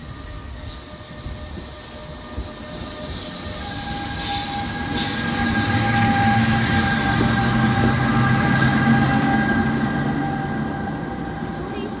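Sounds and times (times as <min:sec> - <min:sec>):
train rail rumble: 0:00.0 - 0:12.0.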